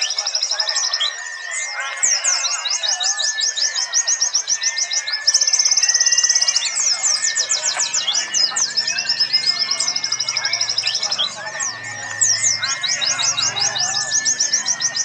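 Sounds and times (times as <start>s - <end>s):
birds chirping high quick notes: 0.0s - 15.0s
fast even bird trill: 0.0s - 15.0s.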